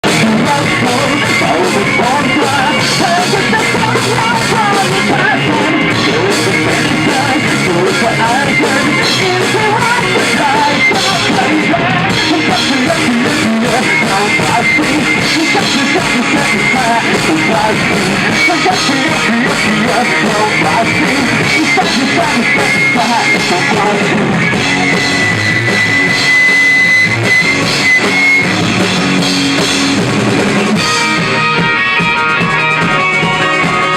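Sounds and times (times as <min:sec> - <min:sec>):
rock band playing live: 0:00.0 - 0:33.9.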